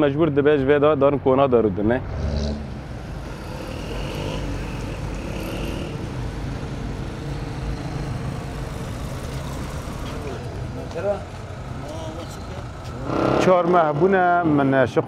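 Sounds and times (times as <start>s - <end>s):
traffic engine and tyre rumble: 0.0s - 15.0s.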